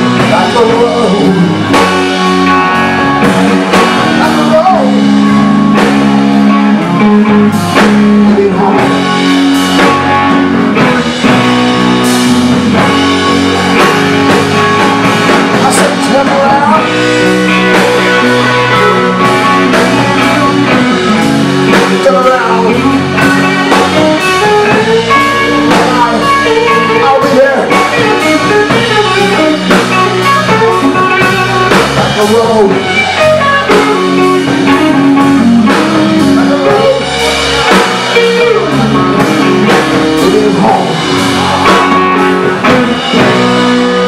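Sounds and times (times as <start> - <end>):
bass guitar: 0.0 - 44.0
drum kit: 0.0 - 44.0
electric guitar lead: 0.0 - 44.0.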